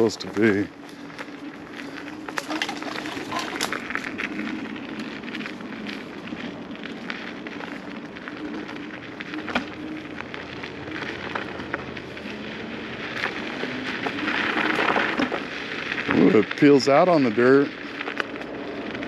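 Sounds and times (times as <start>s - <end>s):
tyres crunching on dirt: 0.0s - 19.0s.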